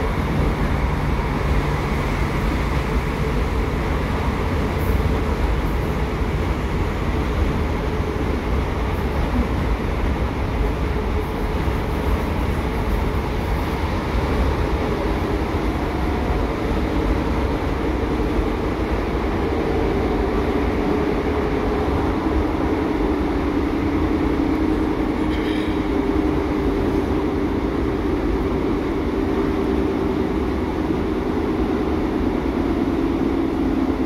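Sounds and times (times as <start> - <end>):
humming diesel engine: 0.0 - 34.0
train wheels rumbling on rails: 0.0 - 34.0.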